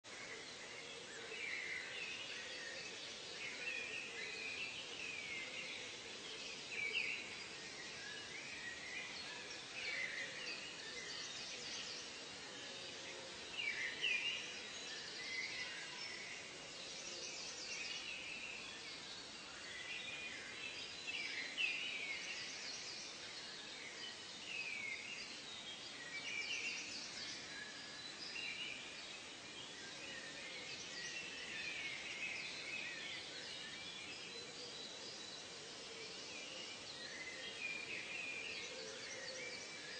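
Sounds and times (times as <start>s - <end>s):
steady outdoor hiss: 0.0s - 39.9s
birds chirping and trilling: 0.1s - 39.9s.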